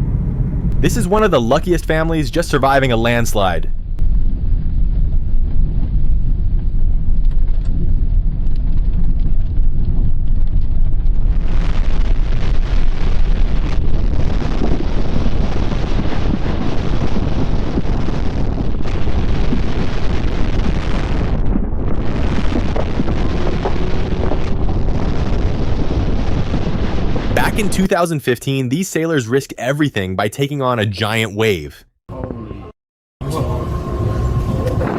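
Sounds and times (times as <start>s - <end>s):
landslide rumbling: 0.8s - 31.7s.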